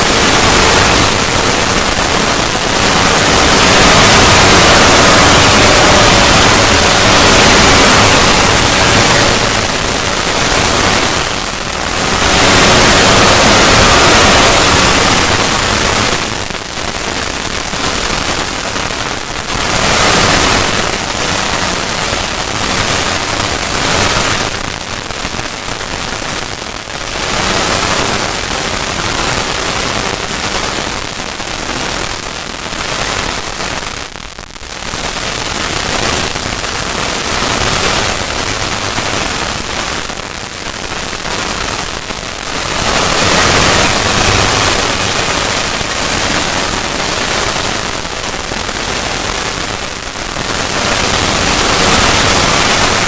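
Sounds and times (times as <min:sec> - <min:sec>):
dense crackling hiss: 0:00.0 - 0:53.0.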